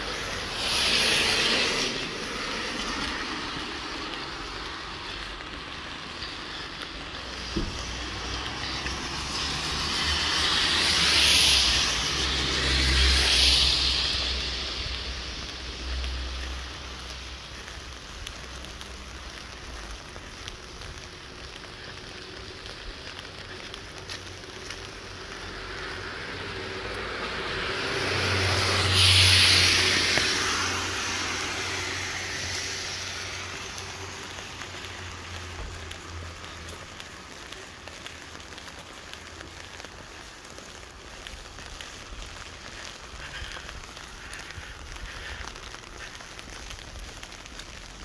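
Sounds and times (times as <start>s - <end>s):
car tyres swishing on wet road: 0.0s - 48.0s
steady rain hiss: 0.0s - 48.0s.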